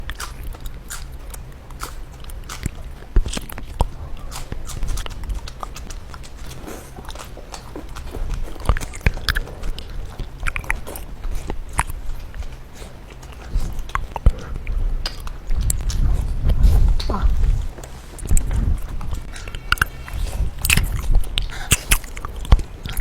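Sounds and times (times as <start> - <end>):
mouth clicks and smacks: 0.0 - 23.0
person chewing noodles: 0.0 - 23.0.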